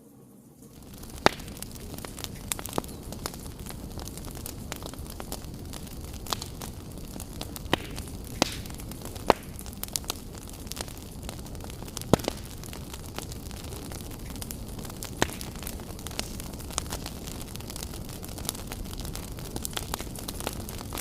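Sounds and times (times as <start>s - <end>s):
low rumble of flames: 0.1s - 21.0s
fire crackles and pops: 0.5s - 21.0s.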